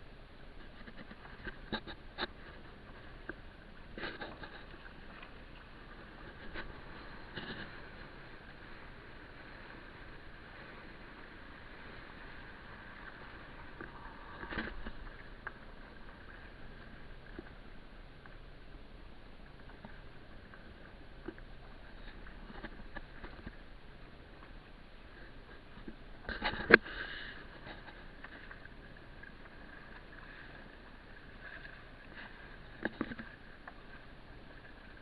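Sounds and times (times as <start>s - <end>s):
kayak moving through choppy water: 0.0s - 35.0s.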